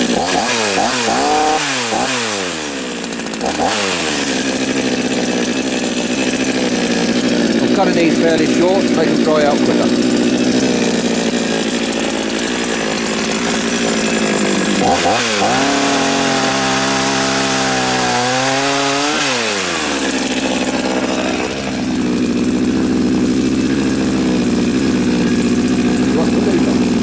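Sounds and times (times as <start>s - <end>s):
chainsaw cutting logs: 0.0s - 27.0s.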